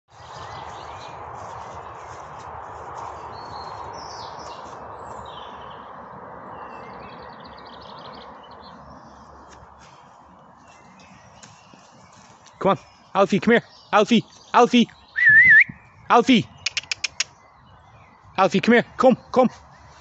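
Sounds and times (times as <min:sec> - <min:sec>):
songbirds chirping: 0:00.1 - 0:20.0.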